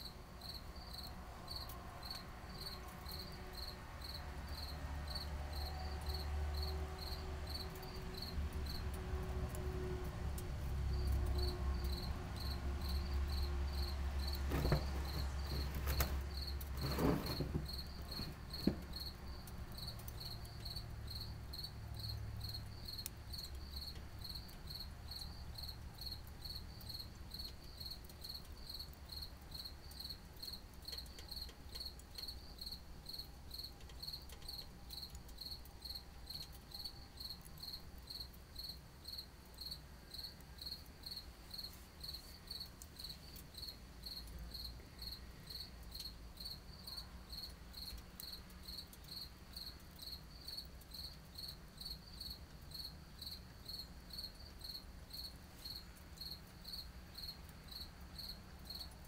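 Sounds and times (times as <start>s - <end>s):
cricket chirping: 0.0s - 8.9s, 10.9s - 59.0s.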